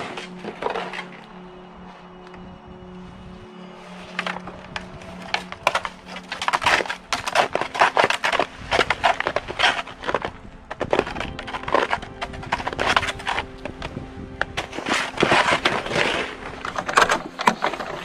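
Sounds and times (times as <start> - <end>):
footsteps crunching on icy snow: 0.0 - 18.0.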